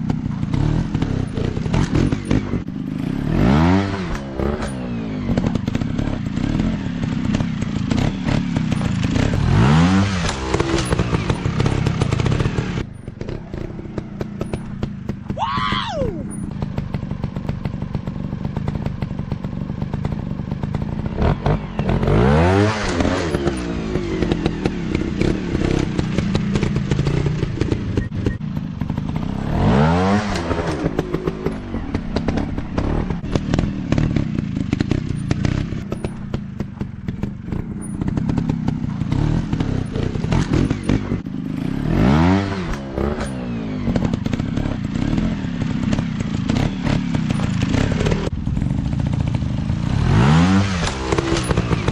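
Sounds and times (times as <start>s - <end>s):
dirt bike engine revving: 0.0s - 51.9s
dirt bike engines running: 0.0s - 51.9s.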